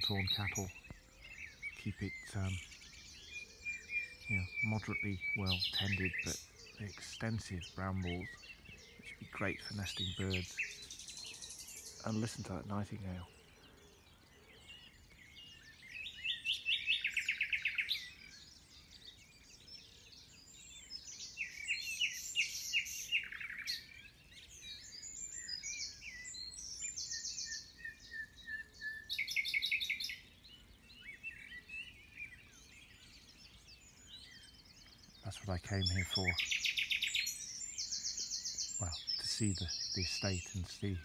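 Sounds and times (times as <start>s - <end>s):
nightingale singing: 0.0s - 41.0s.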